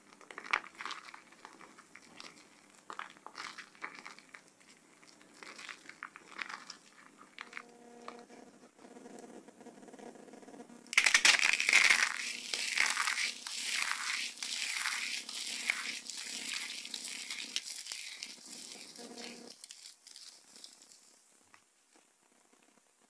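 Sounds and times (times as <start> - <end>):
dry soap crackling: 0.0 - 8.7, 10.9 - 23.0.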